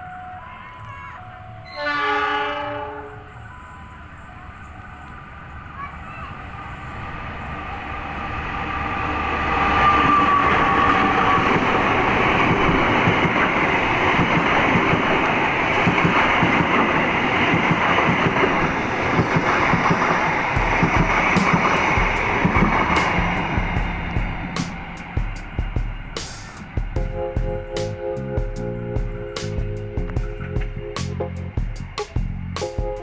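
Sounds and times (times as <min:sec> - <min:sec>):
train wheels rumbling on rail: 0:00.8 - 0:33.0.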